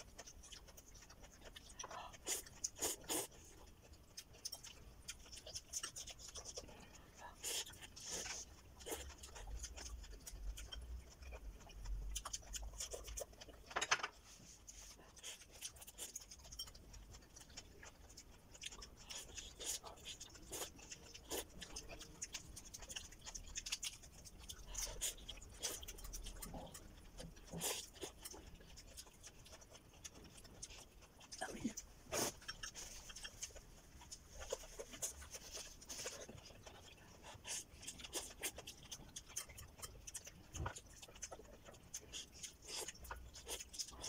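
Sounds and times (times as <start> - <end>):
crunching vegetables: 0.0 - 13.7, 15.1 - 44.0.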